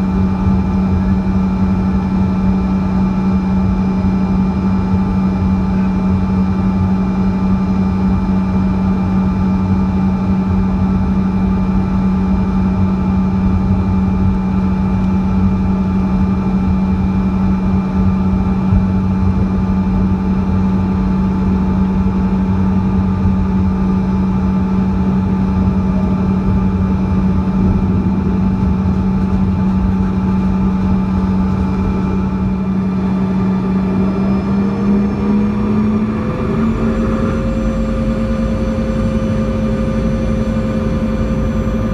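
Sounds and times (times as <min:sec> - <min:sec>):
jet engines droning inside cabin: 0:00.0 - 0:41.9.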